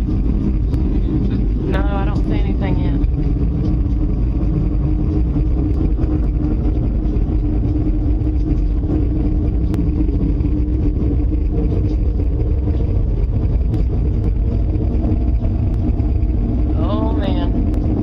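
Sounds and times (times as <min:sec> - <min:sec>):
constant hum: 0:00.0 - 0:18.0
loud steady low rumble: 0:00.0 - 0:18.0.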